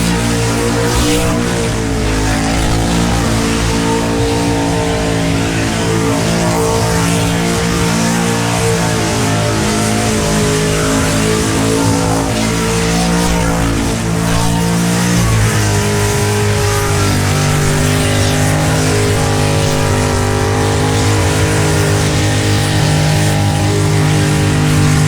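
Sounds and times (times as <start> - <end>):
engine revving high: 0.0 - 25.0.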